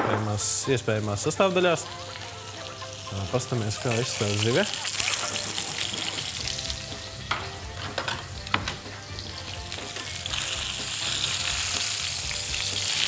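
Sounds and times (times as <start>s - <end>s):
fish sizzling in a frying pan: 0.3s - 13.0s.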